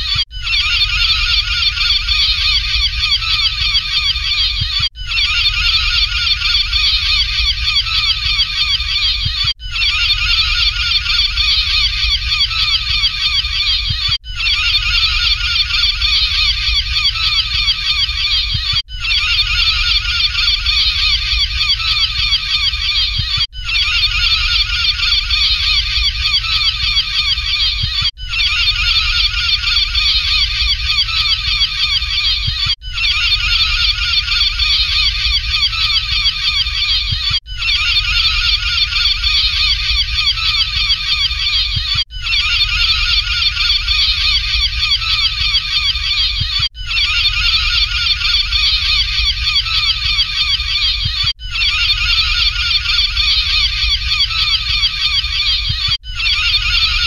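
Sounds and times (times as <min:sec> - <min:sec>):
gulls calling: 0:00.0 - 0:57.0.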